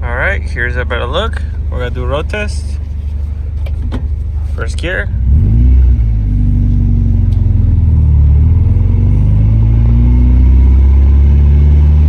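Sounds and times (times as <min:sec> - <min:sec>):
car engine accelerating: 0:00.9 - 0:12.0.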